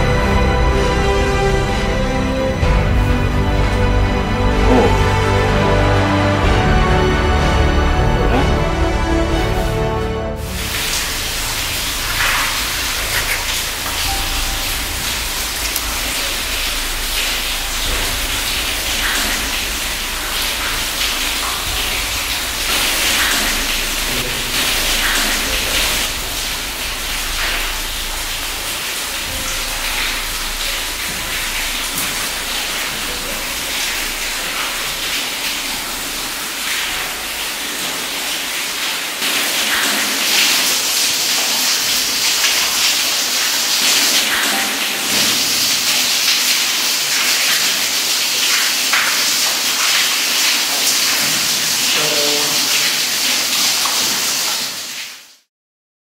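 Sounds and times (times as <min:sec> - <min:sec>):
dripping and running water: 0:00.0 - 0:55.5
water splashing: 0:02.6 - 0:09.7, 0:10.4 - 0:55.5.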